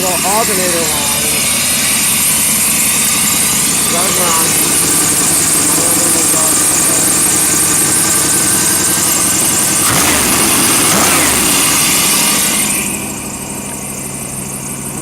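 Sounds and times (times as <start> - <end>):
alternator belt squeal: 0.0 - 15.0
engine running and revving: 0.0 - 15.0.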